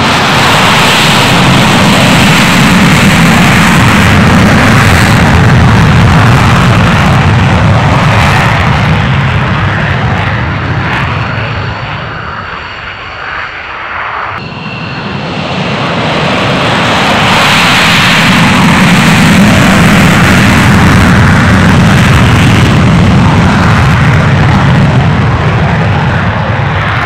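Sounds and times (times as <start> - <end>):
jet taking off in afterburner: 0.0 - 27.0.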